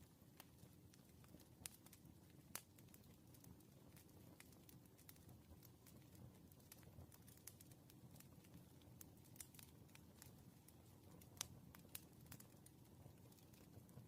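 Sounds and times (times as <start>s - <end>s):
low fire rumble: 0.0s - 14.0s
wood fire crackling and popping: 0.0s - 14.0s.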